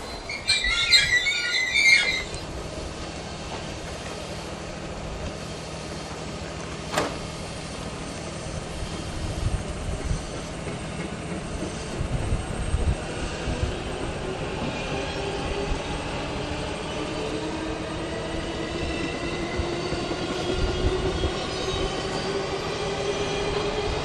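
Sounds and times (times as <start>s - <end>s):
train rumbling over rails: 0.0s - 24.0s.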